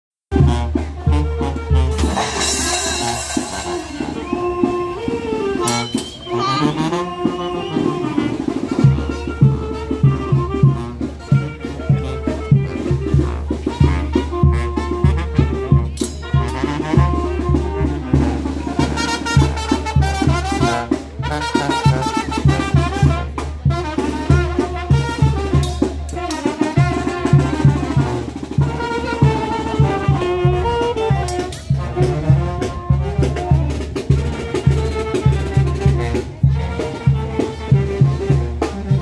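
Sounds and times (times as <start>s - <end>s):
bass and drum beat: 0.3s - 39.0s
brass band music: 0.3s - 39.0s
trumpets: 0.3s - 39.0s.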